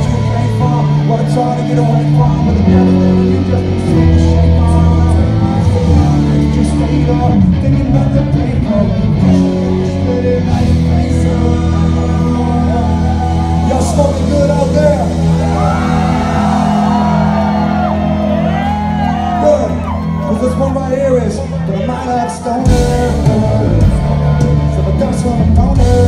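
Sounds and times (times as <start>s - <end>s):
person singing: 0.0s - 19.2s, 21.7s - 26.0s
live rock band playing: 0.0s - 26.0s.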